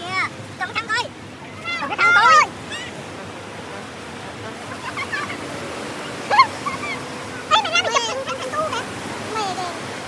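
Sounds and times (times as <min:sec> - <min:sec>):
ocean surf on beach: 0:00.0 - 0:10.0
faint voices: 0:00.5 - 0:10.0.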